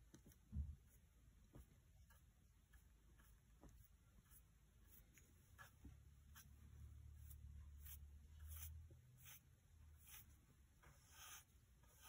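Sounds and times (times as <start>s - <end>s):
faint low hum: 0.0s - 12.0s
paintbrush stroking varnish: 0.0s - 12.0s.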